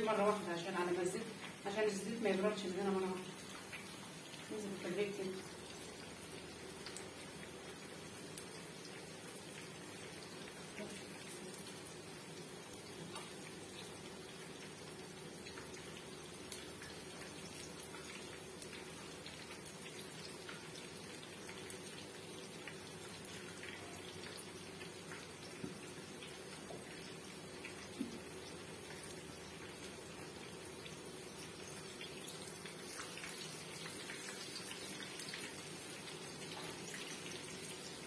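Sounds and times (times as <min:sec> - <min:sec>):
eggplant sizzling in hot oil: 0:00.0 - 0:38.0
oil popping and crackling: 0:03.2 - 0:04.5, 0:05.4 - 0:38.0.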